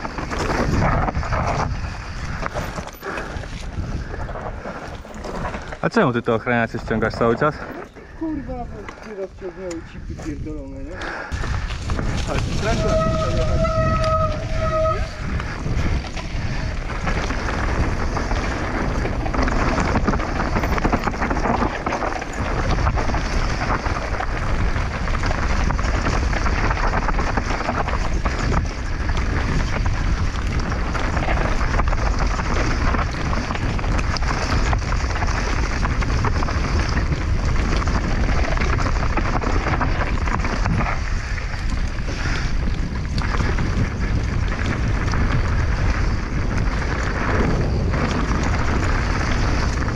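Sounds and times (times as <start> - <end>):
mountain bike rattling on dirt trail: 0.0 - 49.9
wind buffeting microphone: 0.0 - 49.9.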